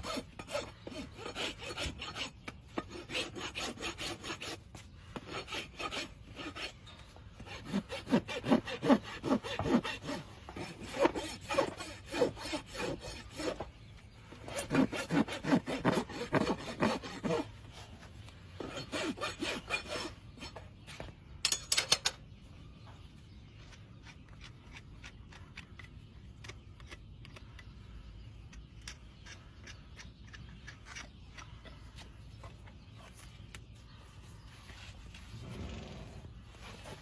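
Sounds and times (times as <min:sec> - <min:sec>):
rasp filing a hoof: 0:00.0 - 0:21.2, 0:23.5 - 0:37.0.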